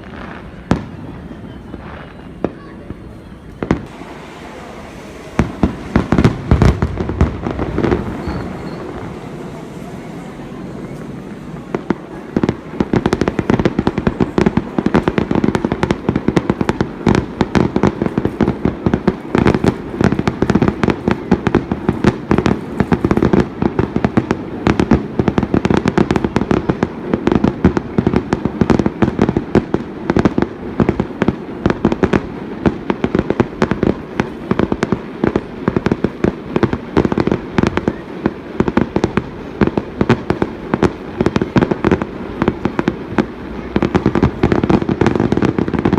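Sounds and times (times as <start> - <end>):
fireworks bangs and bursts: 0.0 - 45.9.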